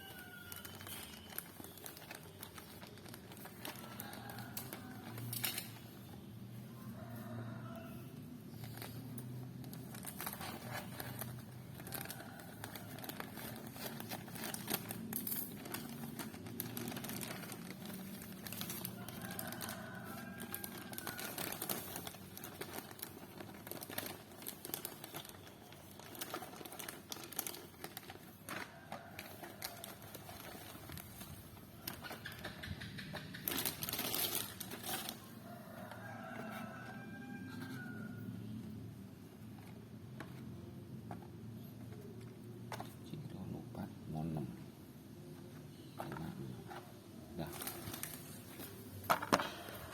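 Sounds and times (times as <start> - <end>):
packaging crinkling: 0.0 - 6.0, 8.5 - 43.0, 45.9 - 49.9.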